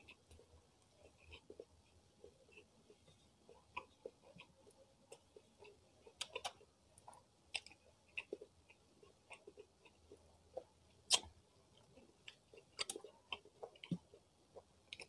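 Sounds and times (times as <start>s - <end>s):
quiet wet chewing: 0.0s - 15.0s.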